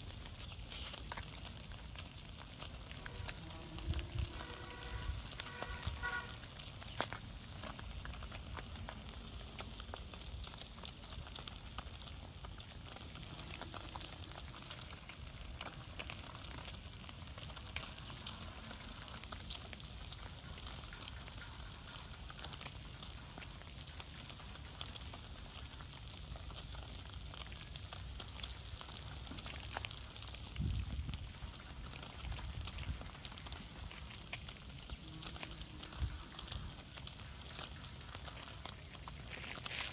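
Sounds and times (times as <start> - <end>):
fire crackling and popping: 0.0 - 39.9
food sizzling: 0.0 - 39.9.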